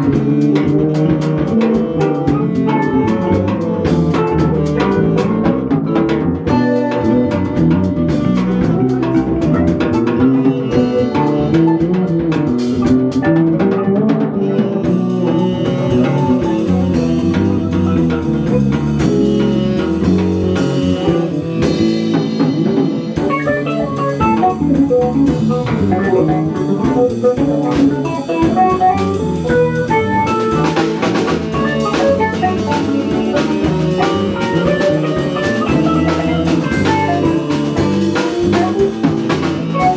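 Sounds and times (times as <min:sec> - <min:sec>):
bass guitar: 0:00.0 - 0:39.9
drum kit with cymbals: 0:00.0 - 0:39.9
electric guitar: 0:00.0 - 0:39.9.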